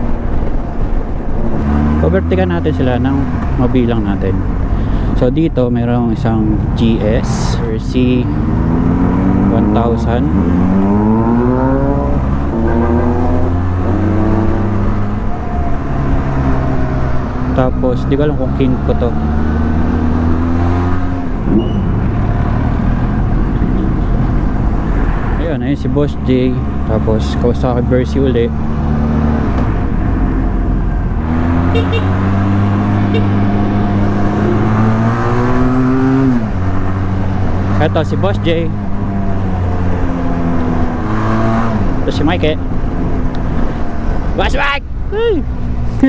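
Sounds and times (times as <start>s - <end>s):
low wind rumble: 0.0s - 46.0s
motorcycle engine accelerating: 0.0s - 46.0s.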